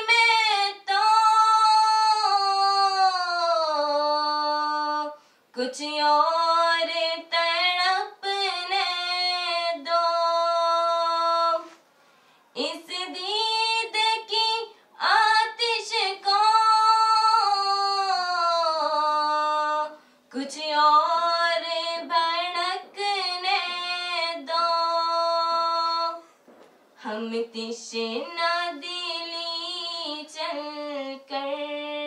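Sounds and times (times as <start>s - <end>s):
women singing unaccompanied: 0.0s - 11.8s, 12.6s - 26.3s, 27.0s - 32.0s.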